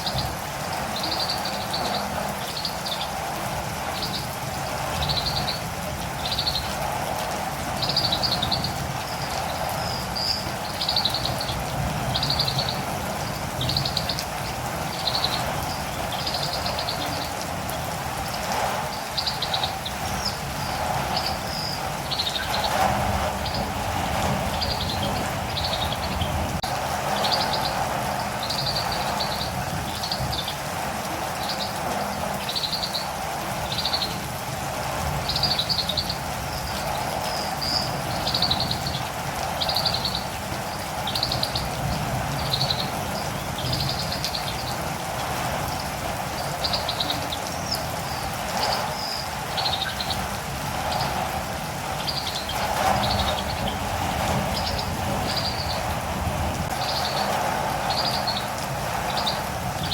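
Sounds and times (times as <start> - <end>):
steady rain: 0.0 - 59.9
bird chirping: 0.9 - 3.2, 3.9 - 6.8, 7.8 - 17.4, 18.9 - 26.5, 27.1 - 30.6, 31.4 - 34.2, 35.2 - 44.8, 45.7 - 51.2, 51.9 - 56.0, 56.7 - 59.9.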